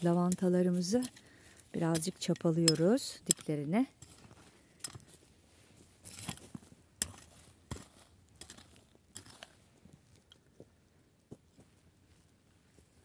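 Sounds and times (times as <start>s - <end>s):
dry soil crunching: 0.0s - 10.7s.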